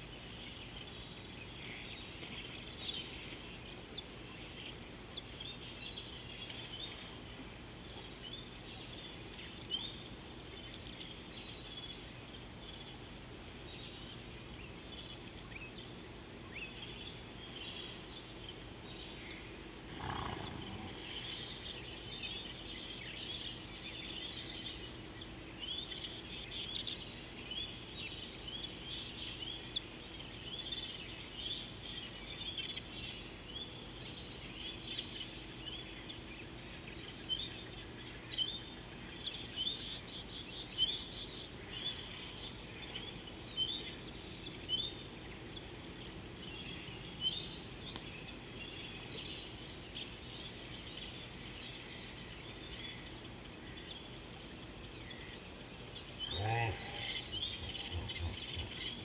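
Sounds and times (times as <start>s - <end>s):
faint low hum: 0.0s - 59.0s
small birds chirping: 0.0s - 59.0s.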